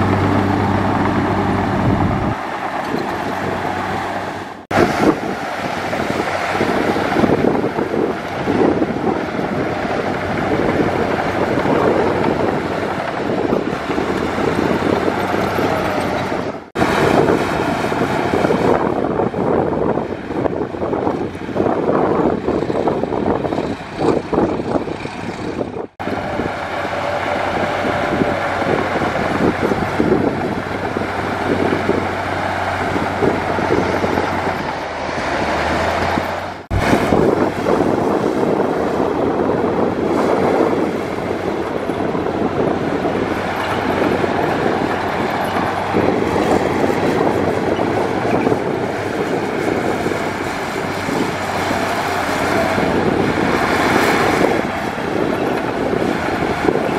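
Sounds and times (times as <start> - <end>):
clanking track clatter: 0.0 - 21.6, 22.4 - 56.9
bulldozer diesel engine: 0.0 - 56.9.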